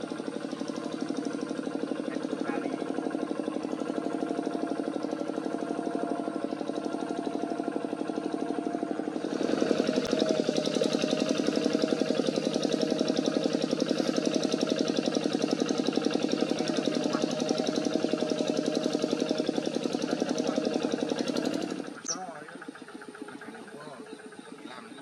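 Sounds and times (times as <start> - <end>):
diesel engine chugging: 0.0 - 25.0.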